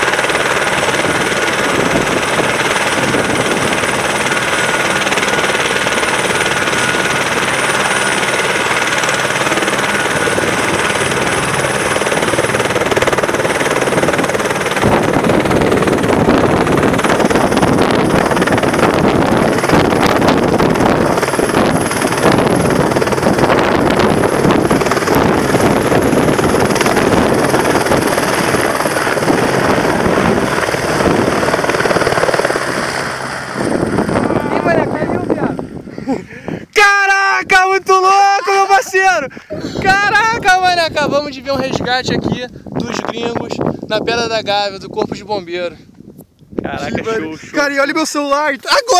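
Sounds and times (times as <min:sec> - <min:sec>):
helicopter rotor noise: 0:00.0 - 0:45.9, 0:46.6 - 0:48.9
helicopter turbine whine: 0:00.0 - 0:48.9.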